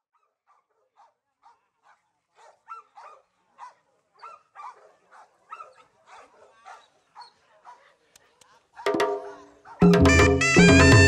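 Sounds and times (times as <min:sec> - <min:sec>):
dog barking: 0:00.1 - 0:10.0.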